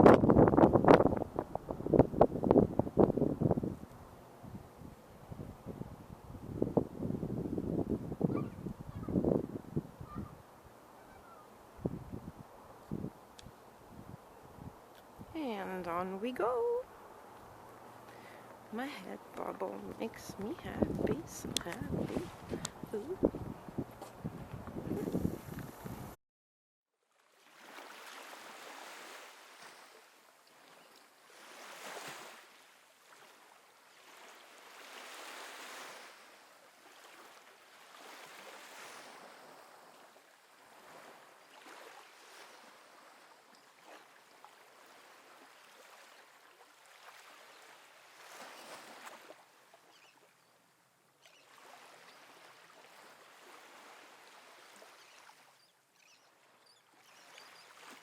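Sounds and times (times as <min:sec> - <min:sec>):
faint ocean waves washing in: 0:00.0 - 0:26.2, 0:27.1 - 0:58.0
wind: 0:00.0 - 0:26.2, 0:26.9 - 0:58.0.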